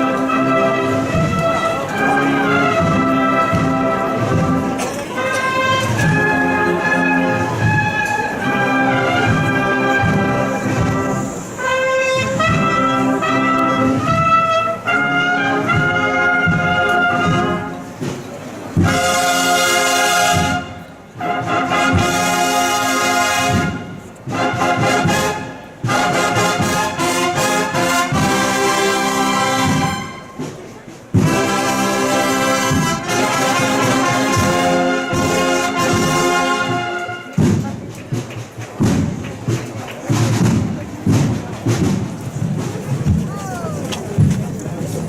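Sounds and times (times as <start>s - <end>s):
percussion strikes: 0.0s - 14.6s, 23.4s - 45.0s
brass band playing a march: 0.0s - 45.0s.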